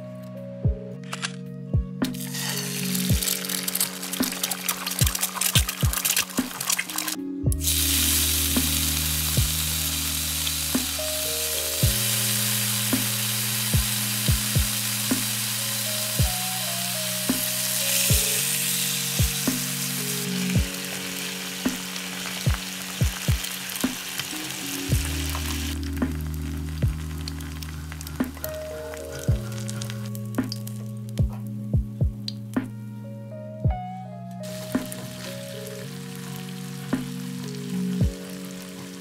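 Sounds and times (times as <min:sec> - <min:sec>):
soft background music: 0:00.0 - 0:39.0
bacon sizzling in a pan: 0:02.2 - 0:30.6, 0:34.5 - 0:39.0.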